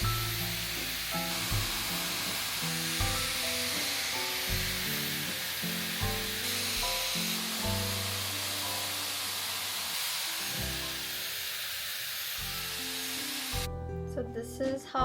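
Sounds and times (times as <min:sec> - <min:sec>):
background music with low notes: 0:00.0 - 0:11.3, 0:12.4 - 0:15.0
hot-air styler blowing: 0:00.0 - 0:13.7.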